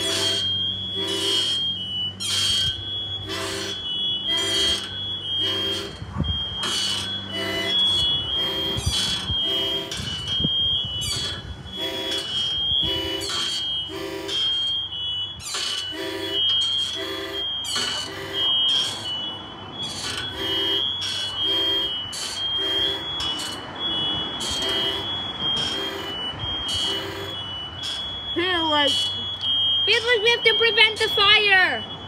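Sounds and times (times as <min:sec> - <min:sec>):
high-pitched smoke alarm: 0:00.0 - 0:32.0
locomotive cab alarm chord blasts: 0:00.0 - 0:32.0.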